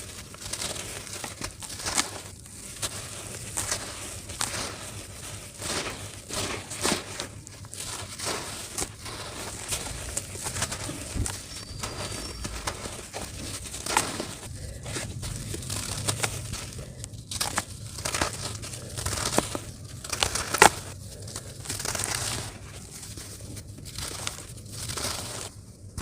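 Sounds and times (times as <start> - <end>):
dry dirt crunching: 0.0 - 26.0.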